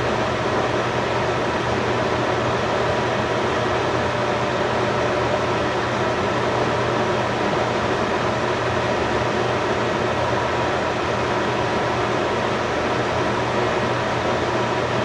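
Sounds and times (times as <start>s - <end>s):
machine hum with rushing air: 0.0s - 15.0s.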